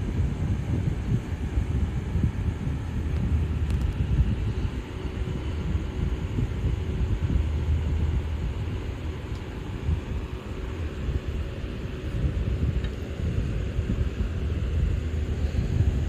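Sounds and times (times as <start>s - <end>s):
faint motor hum: 0.0s - 16.0s
fan airflow buffeting microphone: 0.0s - 16.0s.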